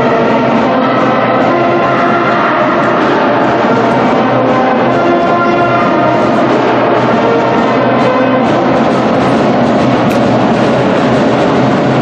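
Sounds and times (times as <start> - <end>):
music with held notes: 0.0 - 10.2.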